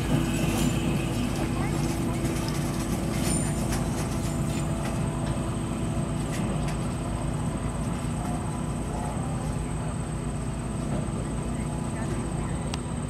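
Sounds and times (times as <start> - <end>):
locomotive diesel engine drone: 0.0 - 13.0.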